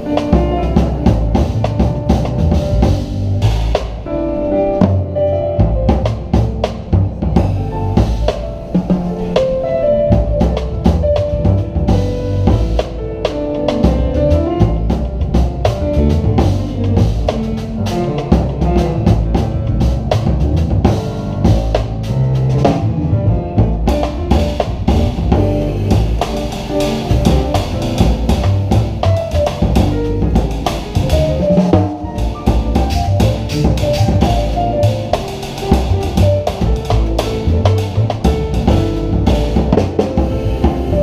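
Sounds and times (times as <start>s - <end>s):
double bass: 0.0s - 41.0s
jazz drum kit played with sticks: 0.0s - 41.0s.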